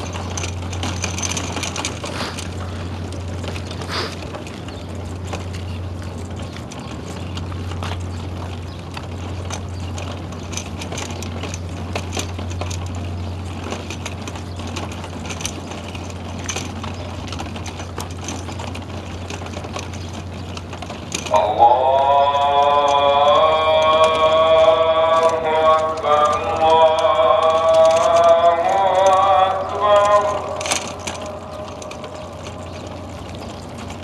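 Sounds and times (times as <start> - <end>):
steady low mechanical hum: 0.0 - 34.0.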